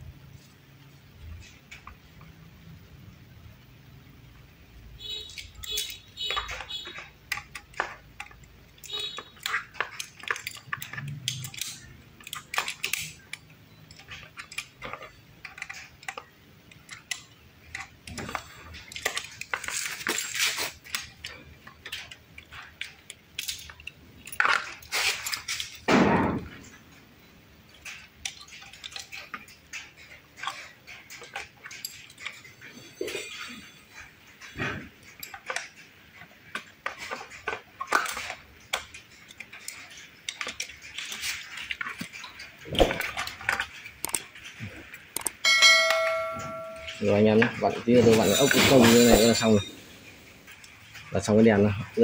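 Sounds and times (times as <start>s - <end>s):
tools and metal parts clinking: 5.0s - 52.0s.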